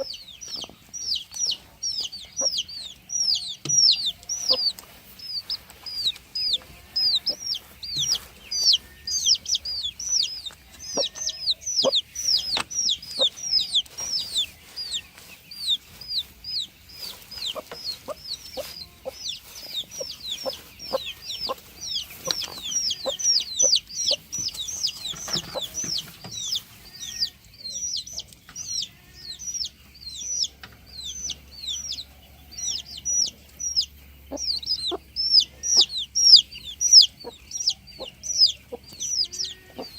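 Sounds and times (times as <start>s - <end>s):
chickens peeping and clucking: 0.0s - 39.9s.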